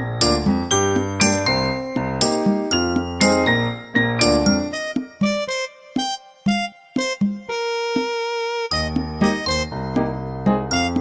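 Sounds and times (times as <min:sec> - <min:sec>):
bouncy background music: 0:00.0 - 0:11.0
bright keyboard notes: 0:00.0 - 0:11.0.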